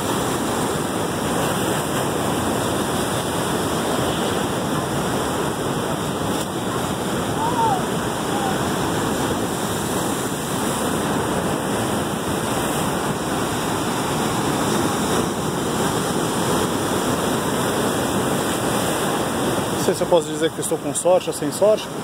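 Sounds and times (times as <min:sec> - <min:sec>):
ocean waves breaking on rocks: 0:00.0 - 0:22.0.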